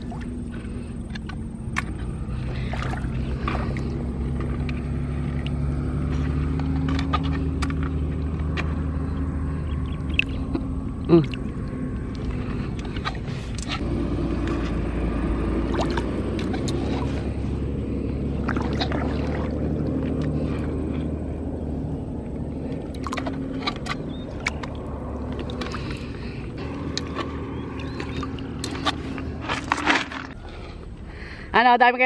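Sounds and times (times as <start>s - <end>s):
shallow river water rumbling: 0.0s - 32.0s.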